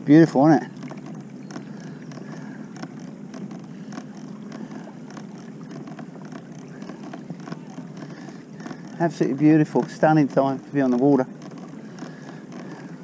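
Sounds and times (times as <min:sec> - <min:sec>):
steady low hum: 0:00.0 - 0:13.0
water noise: 0:00.0 - 0:13.0
light ticks and taps: 0:00.8 - 0:12.9.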